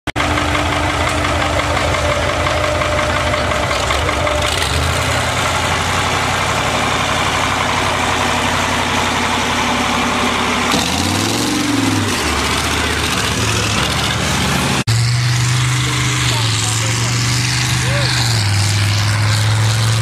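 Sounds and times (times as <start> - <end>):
tractor engine running: 0.1 - 20.0.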